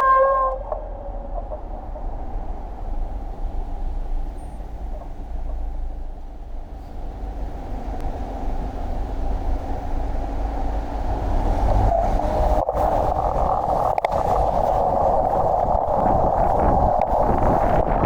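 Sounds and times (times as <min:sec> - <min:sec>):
tyre and road rumble: 0:00.0 - 0:18.0
wind rushing on microphone: 0:00.0 - 0:18.0.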